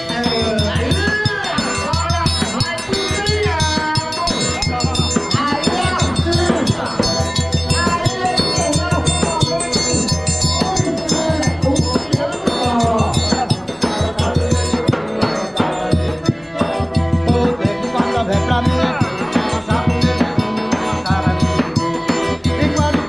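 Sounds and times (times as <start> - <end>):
person singing: 0.0 - 23.0.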